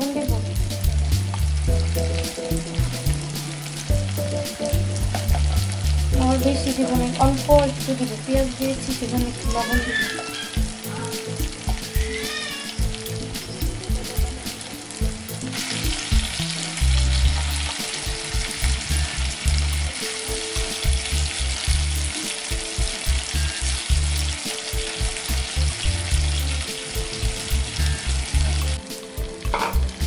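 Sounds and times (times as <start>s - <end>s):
fish and onions sizzling in oil: 0.0s - 30.0s.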